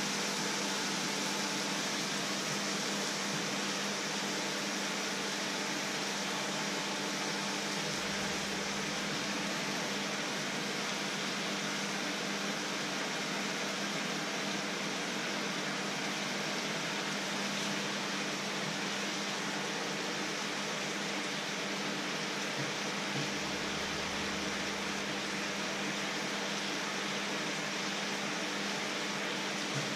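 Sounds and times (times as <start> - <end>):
water boiling in a pan: 0.0 - 29.9.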